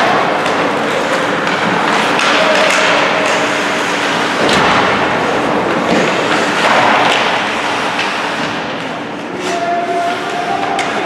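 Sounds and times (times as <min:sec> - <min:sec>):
arena noise rush: 0:00.0 - 0:11.0
hockey sticks and puck knocks: 0:00.0 - 0:11.0.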